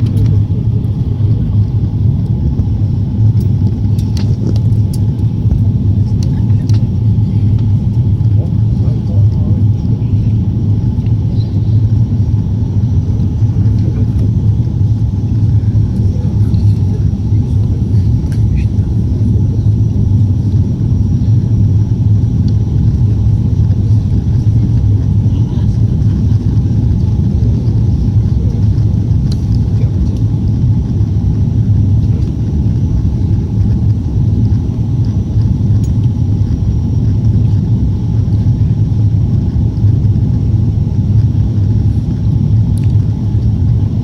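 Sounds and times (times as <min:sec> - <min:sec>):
faint high whine: 0:00.0 - 0:44.0
jet engines rumbling: 0:00.0 - 0:44.0.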